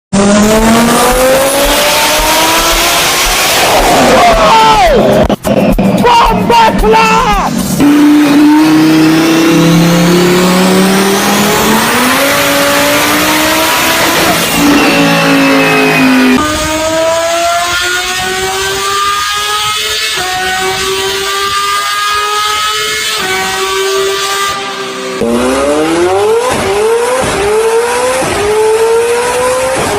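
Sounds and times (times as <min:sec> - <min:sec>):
second car engine revving: 0:00.1 - 0:06.0, 0:07.5 - 0:29.9
car engine at full throttle: 0:00.1 - 0:29.9.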